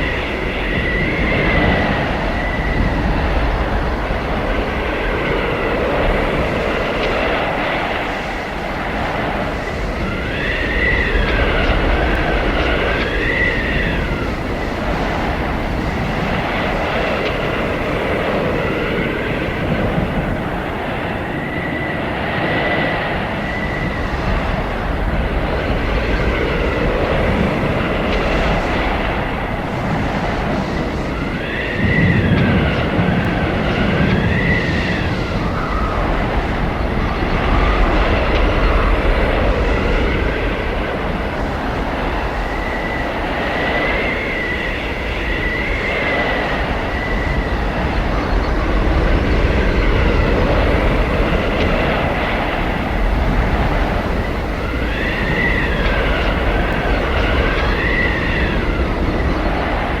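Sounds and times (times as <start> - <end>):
blizzard wind howling: 0.0 - 60.0
high wind whistle: 0.0 - 60.0.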